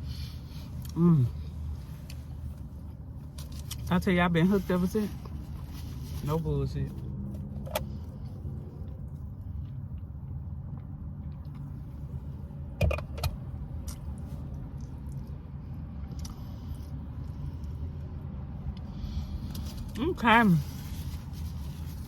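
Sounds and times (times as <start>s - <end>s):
car cabin low hum: 0.0s - 22.0s.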